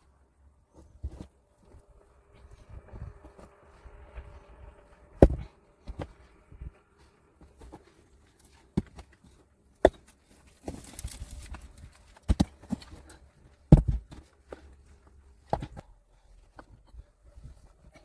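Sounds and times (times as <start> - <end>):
rock scraping: 0.8 - 6.6, 7.4 - 18.0.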